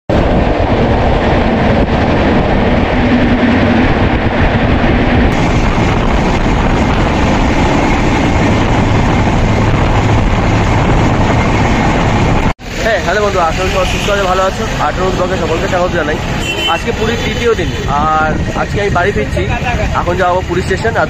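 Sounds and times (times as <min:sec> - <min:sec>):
train wheel and track noise: 0:00.1 - 0:21.0.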